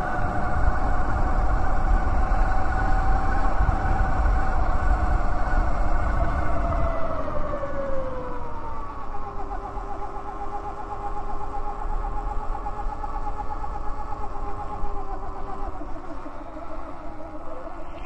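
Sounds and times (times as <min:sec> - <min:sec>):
electric motorbike motor whining: 0:00.0 - 0:18.0
wind rumble on microphone: 0:00.0 - 0:18.0.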